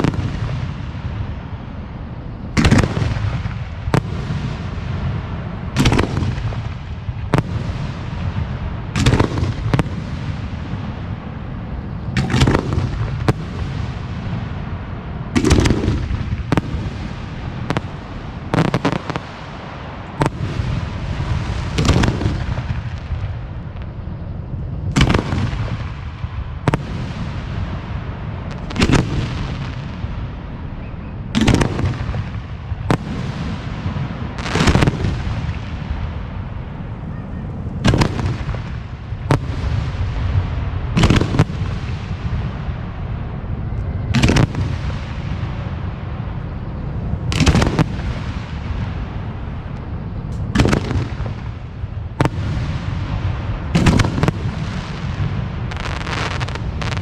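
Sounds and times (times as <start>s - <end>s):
continuous low rumble: 0.0s - 57.0s
fireworks bangs with rumbling echo: 0.0s - 57.0s.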